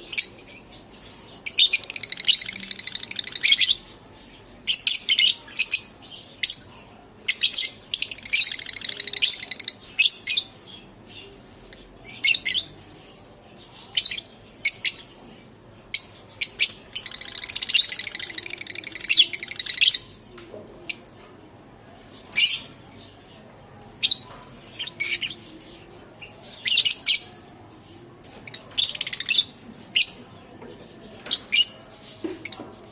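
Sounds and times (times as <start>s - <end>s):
lovebirds twittering chirps: 0.0s - 15.3s, 15.9s - 20.2s, 22.1s - 32.6s.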